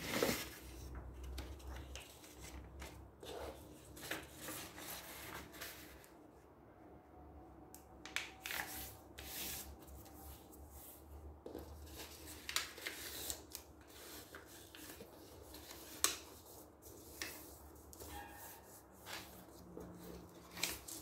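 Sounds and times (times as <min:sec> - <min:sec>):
paper rustling and sliding: 0:00.0 - 0:06.1, 0:08.4 - 0:21.0.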